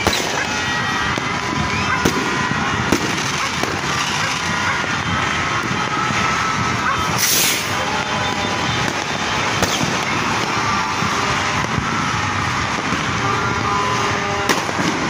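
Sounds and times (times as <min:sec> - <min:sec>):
distant firecracker crackle: 0:00.0 - 0:15.0
sharp firework bangs: 0:00.0 - 0:15.0.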